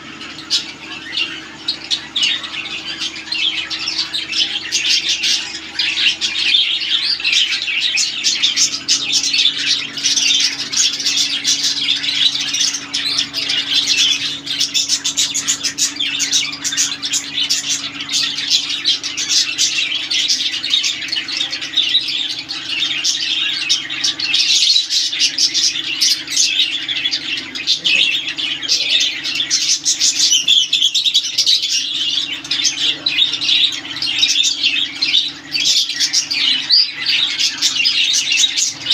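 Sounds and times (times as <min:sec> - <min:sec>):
caged birds chattering and chirping: 0:00.0 - 0:38.9
steady low hum: 0:00.0 - 0:38.9.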